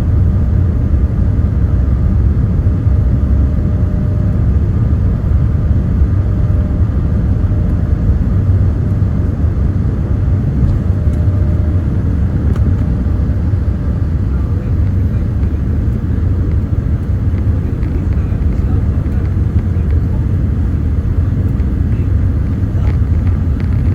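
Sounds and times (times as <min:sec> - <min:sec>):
aircraft engine and airflow rumble: 0:00.0 - 0:23.9
faint steady hum: 0:00.0 - 0:23.9.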